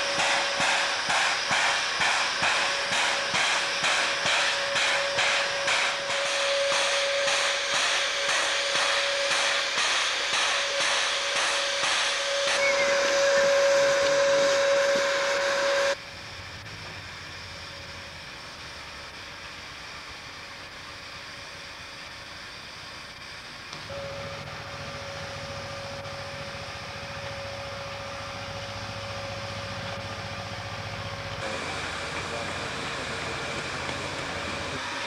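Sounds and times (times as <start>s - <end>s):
steam locomotive blowing off steam: 0.0s - 35.0s.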